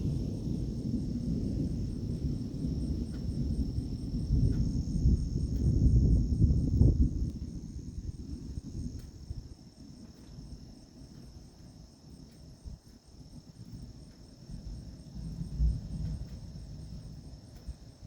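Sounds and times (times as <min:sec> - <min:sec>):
insects trilling: 0:00.0 - 0:18.0
pulsing insect chirp: 0:00.0 - 0:18.0.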